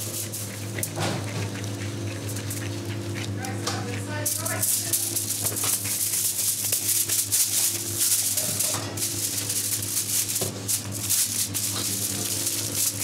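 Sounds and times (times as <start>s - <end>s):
aluminium foil crinkling: 0.0s - 13.0s
steady low hum: 0.0s - 13.0s.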